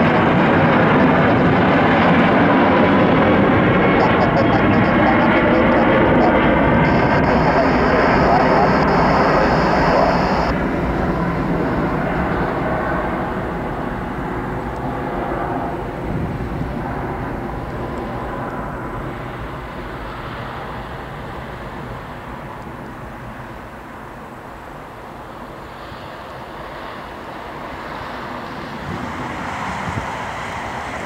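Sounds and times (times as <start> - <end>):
airliner engine roar: 0.0 - 31.0.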